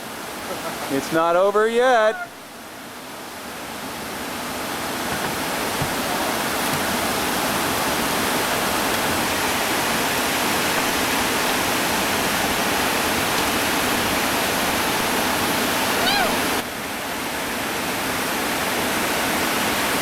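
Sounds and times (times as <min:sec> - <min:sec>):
rushing whitewater: 0:00.0 - 0:20.0.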